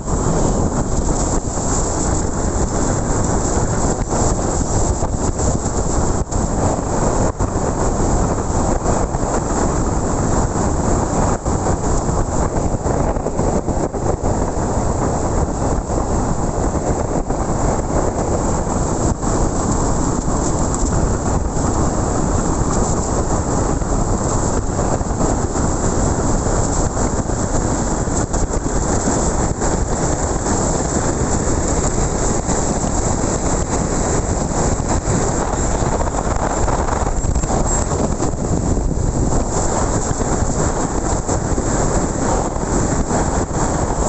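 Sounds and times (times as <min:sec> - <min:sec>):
wind and road noise: 0:00.0 - 0:44.0.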